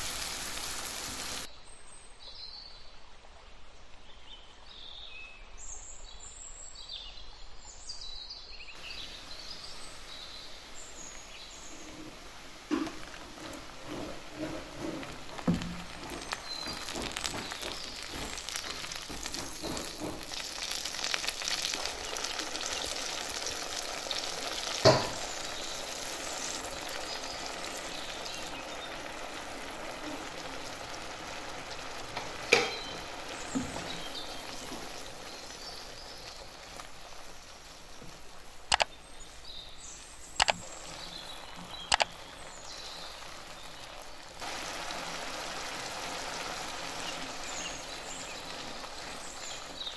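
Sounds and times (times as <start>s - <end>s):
paste sizzling in a pan: 0.0s - 1.5s, 8.8s - 49.9s.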